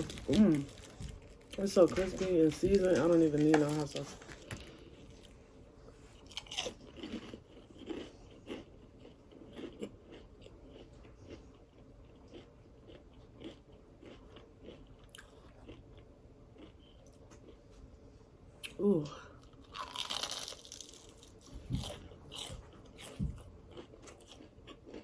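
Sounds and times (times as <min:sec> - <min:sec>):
chewing and crunching crispy food: 0:00.0 - 0:05.4, 0:06.0 - 0:17.9, 0:18.6 - 0:25.0.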